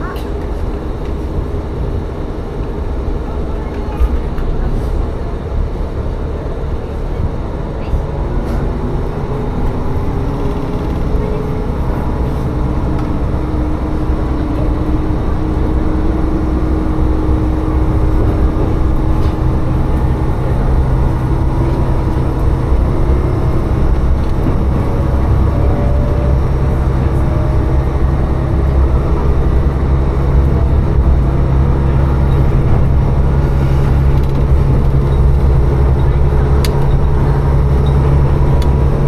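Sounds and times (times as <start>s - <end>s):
railcar engine humming: 0.0s - 39.0s
train rumble: 0.0s - 39.0s.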